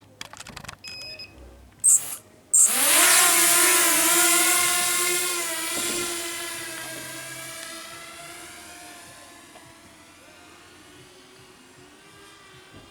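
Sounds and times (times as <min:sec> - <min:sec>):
quadcopter motors whining: 0:01.8 - 0:12.9.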